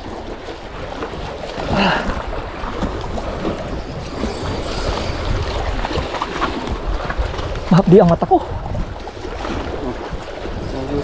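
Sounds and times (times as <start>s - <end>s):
waves washing against rocks: 0.0s - 11.0s
wind on microphone: 0.0s - 11.0s.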